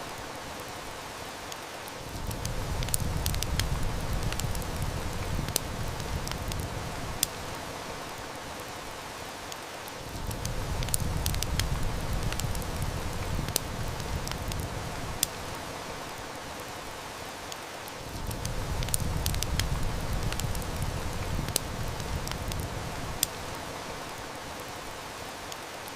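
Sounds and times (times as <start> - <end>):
heavy rain hissing: 0.0 - 25.9
wood fire crackling: 0.0 - 25.9.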